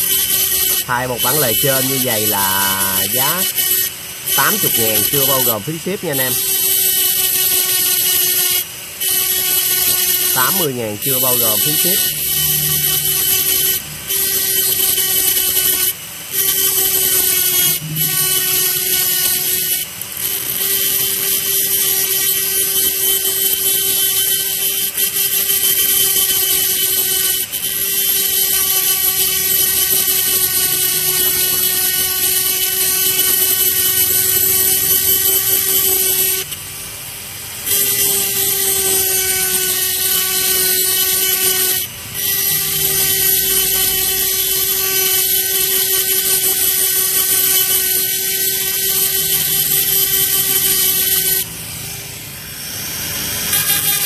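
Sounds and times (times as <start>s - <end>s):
rotary grinder whining: 0.0s - 54.0s.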